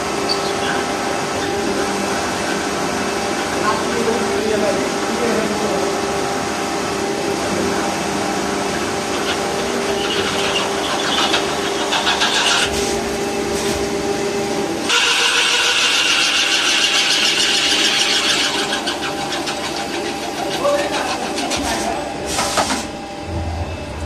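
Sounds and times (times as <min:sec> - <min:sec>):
lathe machine hum: 0:00.0 - 0:24.0.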